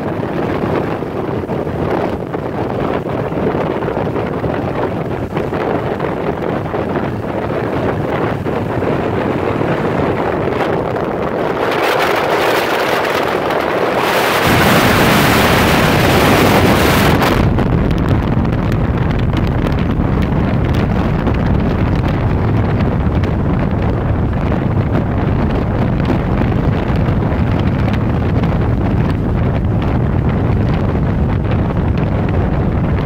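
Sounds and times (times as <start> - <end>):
wind buffeting microphone: 0.0 - 33.0
road noise: 4.0 - 33.0.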